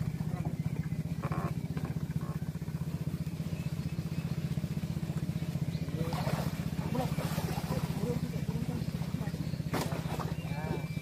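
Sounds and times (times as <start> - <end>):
small boat engine puttering: 0.0 - 11.0.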